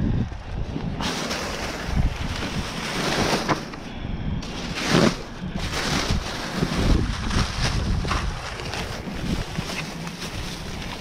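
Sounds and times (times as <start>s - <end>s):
wind buffeting microphone: 0.0s - 11.0s
plastic bags crinkling: 1.0s - 11.0s.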